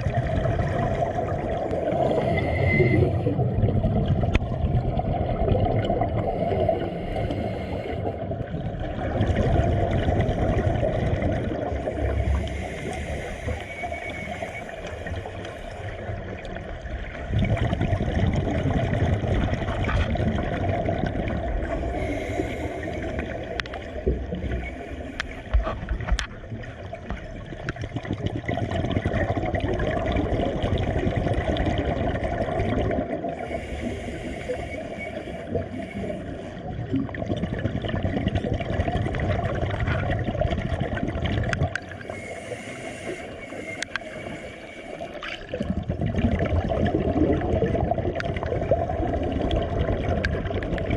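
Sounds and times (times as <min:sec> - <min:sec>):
water gurgling and sloshing: 0:00.0 - 0:50.9.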